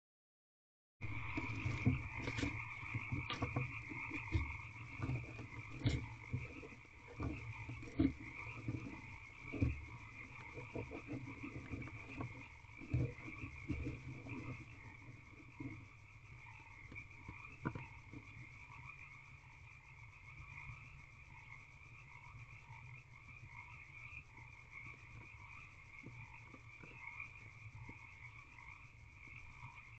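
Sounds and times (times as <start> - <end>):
frogs calling: 1.0 - 30.0.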